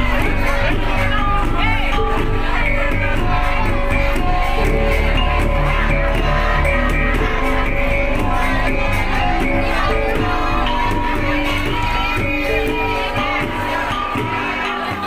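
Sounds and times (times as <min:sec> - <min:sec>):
music with heavy bass: 0:00.0 - 0:15.0.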